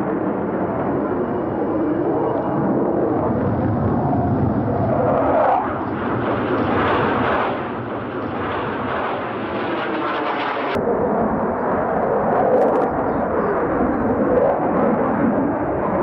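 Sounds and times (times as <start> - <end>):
fighter jet engines roaring: 0.0 - 16.0.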